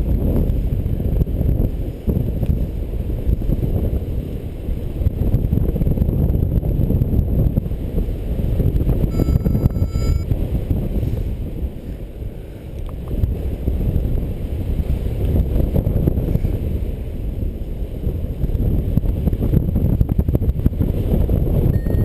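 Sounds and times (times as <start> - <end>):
strong wind buffeting microphone: 0.0 - 22.0.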